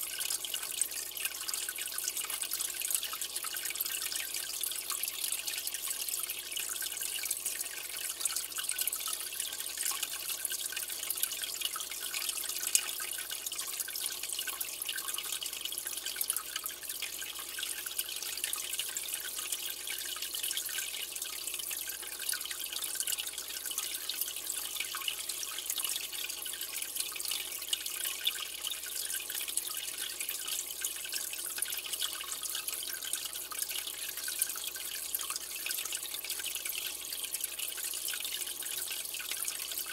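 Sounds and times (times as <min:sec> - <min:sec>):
aquarium water trickling and dripping: 0:00.0 - 0:39.9.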